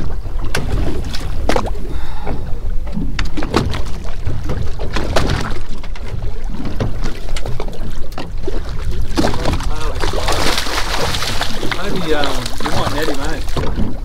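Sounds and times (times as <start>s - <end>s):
knocks and splashes: 0.0s - 14.0s
water slapping against boat hull: 0.0s - 14.0s.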